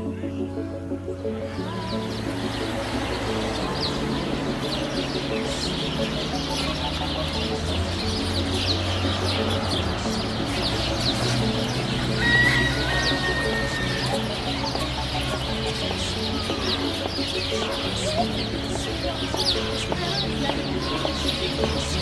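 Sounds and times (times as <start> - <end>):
music with low sustained notes: 0.0 - 22.0.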